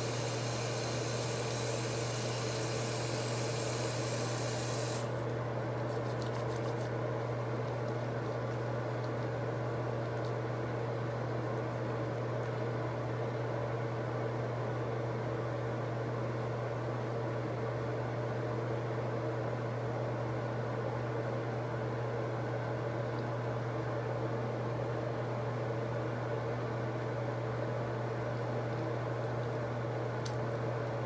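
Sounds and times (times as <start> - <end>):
mechanical hum with hiss: 0.0 - 31.0.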